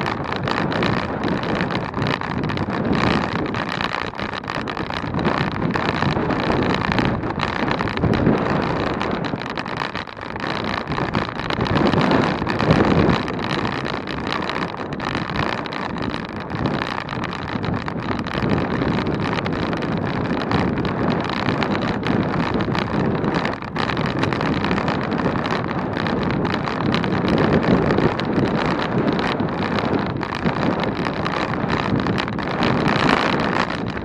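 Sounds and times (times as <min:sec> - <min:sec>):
road rumble: 0:00.0 - 0:34.0
wind rushing over microphone: 0:00.0 - 0:34.0.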